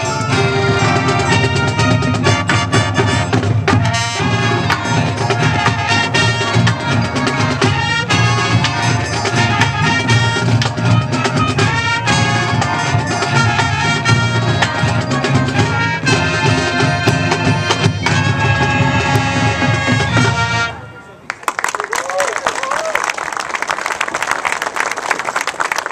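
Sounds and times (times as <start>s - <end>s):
marching band playing: 0.0s - 21.2s.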